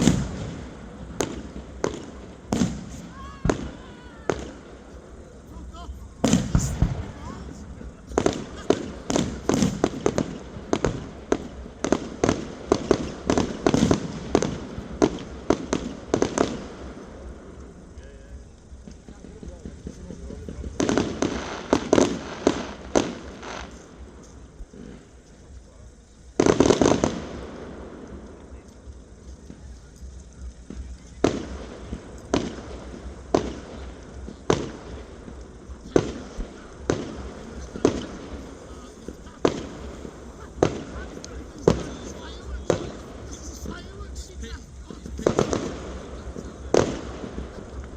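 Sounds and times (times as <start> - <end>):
fireworks bangs and cracks: 0.0 - 47.9.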